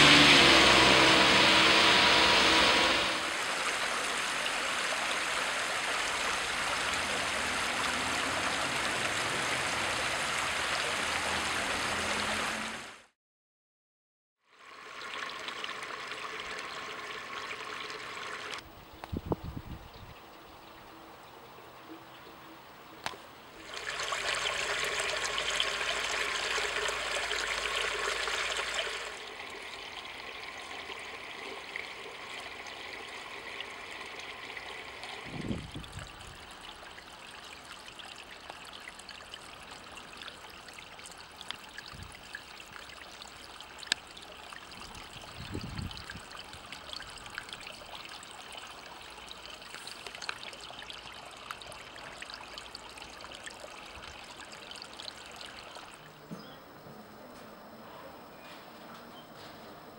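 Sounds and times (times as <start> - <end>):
water trickling over ground: 3.1 - 12.6, 14.5 - 56.6.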